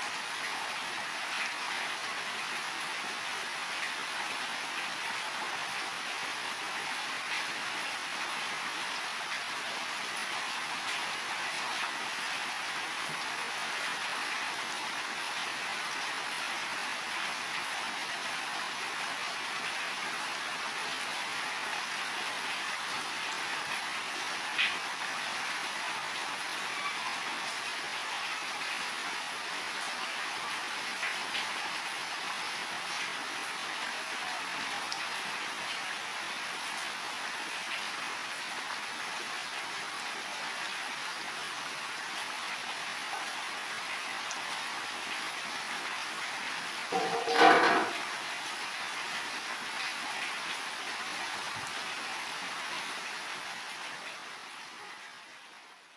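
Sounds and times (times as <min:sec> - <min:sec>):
heavy rain on roofs: 0:00.0 - 0:55.9.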